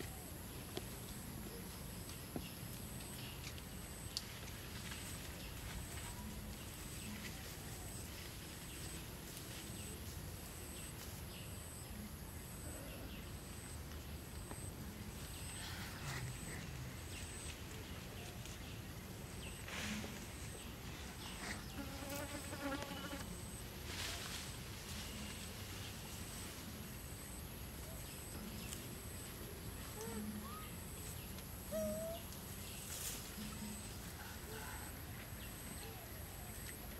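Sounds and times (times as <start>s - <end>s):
soft outdoor hiss: 0.0s - 36.9s.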